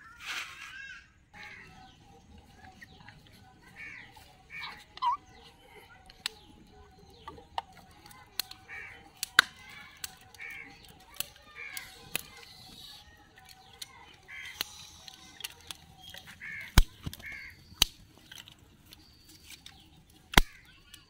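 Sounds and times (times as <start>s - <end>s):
birds calling: 0.6s - 21.0s
twig fire crackling: 1.3s - 21.0s.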